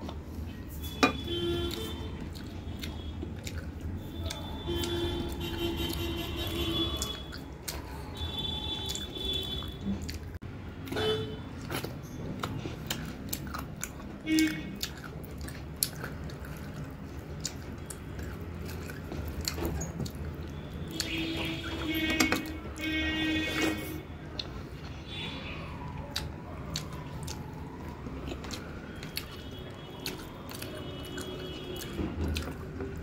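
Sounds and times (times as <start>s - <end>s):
person chewing: 0.0s - 22.9s, 23.6s - 33.0s.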